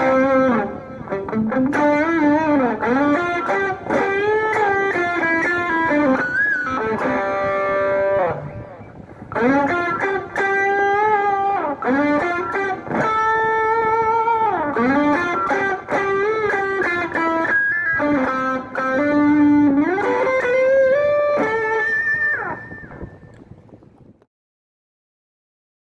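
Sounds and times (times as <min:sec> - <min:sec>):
distorted electric guitar melody: 0:00.0 - 0:23.8.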